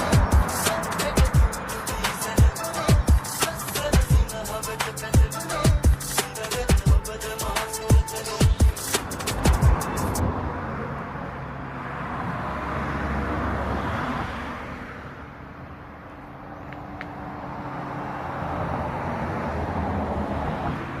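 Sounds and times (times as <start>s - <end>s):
road traffic vehicles passing: 0.0s - 21.0s.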